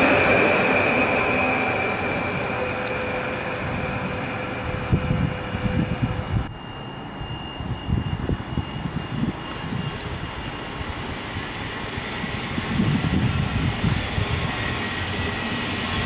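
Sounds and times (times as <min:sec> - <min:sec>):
passenger train pulling away: 0:00.0 - 0:16.0.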